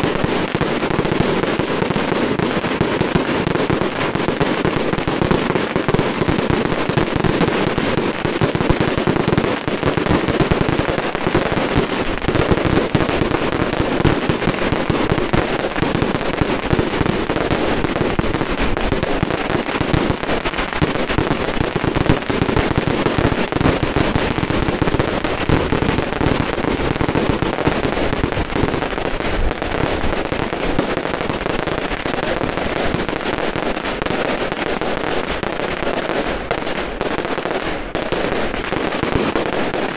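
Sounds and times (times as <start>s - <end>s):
firecrackers crackling barrage: 0.0s - 39.9s.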